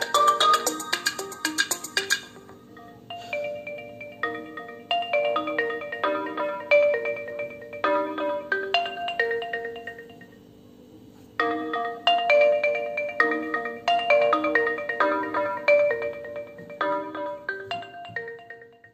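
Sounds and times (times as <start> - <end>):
marimba-like ringtone melody: 0.0 - 10.6, 11.4 - 18.9.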